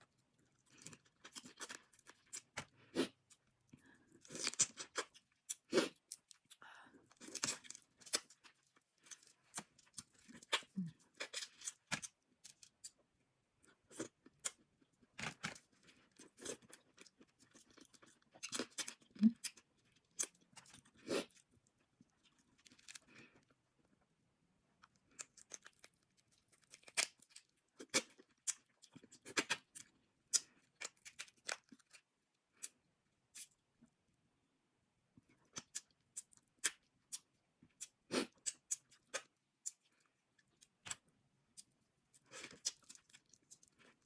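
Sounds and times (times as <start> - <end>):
chewing and tearing: 0.5 - 3.4, 4.2 - 13.0, 13.9 - 23.5, 24.8 - 33.5, 35.4 - 41.0, 41.6 - 44.0.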